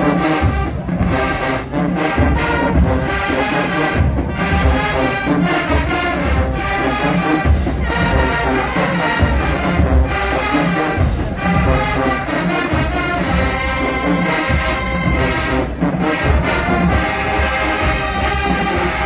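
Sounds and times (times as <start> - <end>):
marching band brass music: 0.0 - 19.0.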